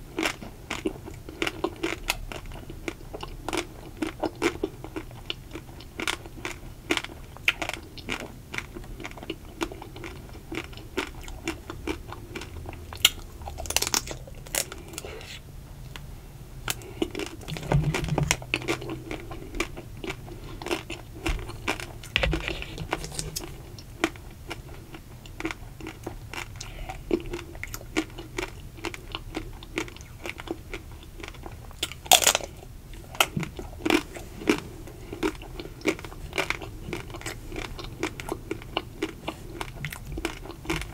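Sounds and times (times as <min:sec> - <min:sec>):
crunchy chewing: 0:00.1 - 0:16.0, 0:16.7 - 0:40.9.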